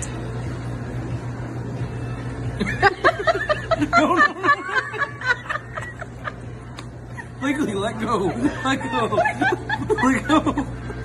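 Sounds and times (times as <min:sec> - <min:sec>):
room noise hum: 0:00.0 - 0:11.0.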